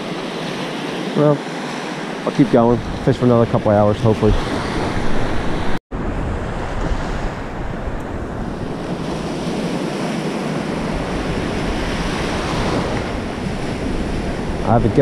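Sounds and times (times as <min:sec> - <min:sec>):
surf breaking on beach: 0:00.0 - 0:15.0
wind buffeting microphone: 0:02.4 - 0:15.0.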